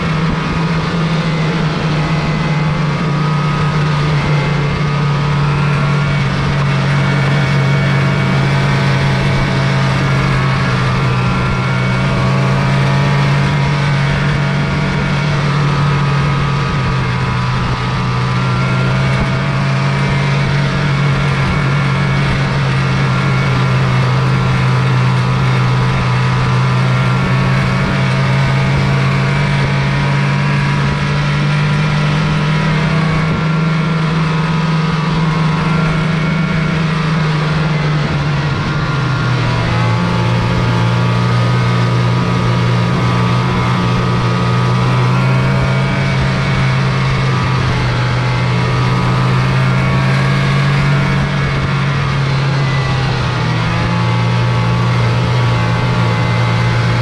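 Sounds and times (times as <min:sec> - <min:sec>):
snowmobile engine droning: 0:00.0 - 0:57.0.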